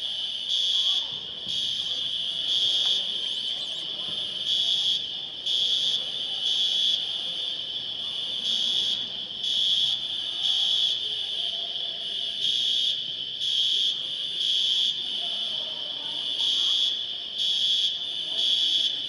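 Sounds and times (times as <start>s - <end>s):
smoke alarm beeping: 0.0s - 11.3s, 12.0s - 15.5s, 16.2s - 19.0s.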